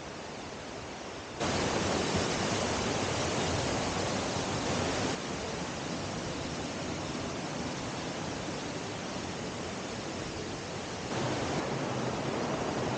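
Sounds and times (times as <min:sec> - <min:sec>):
water rushing in a rocky stream: 0:00.0 - 0:12.9.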